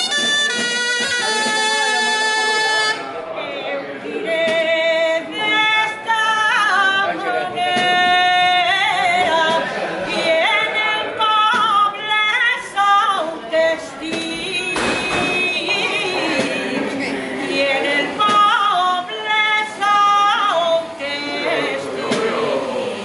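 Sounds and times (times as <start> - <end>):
person singing unaccompanied: 0.0 - 22.8.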